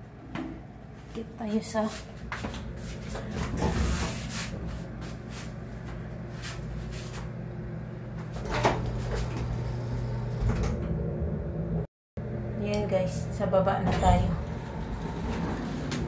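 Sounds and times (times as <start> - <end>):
elevator hum: 0.0 - 16.0.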